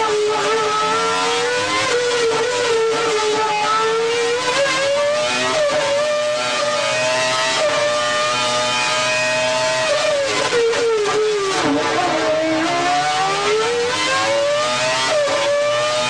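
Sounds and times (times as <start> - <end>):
racing engine at high revs: 0.0 - 16.0.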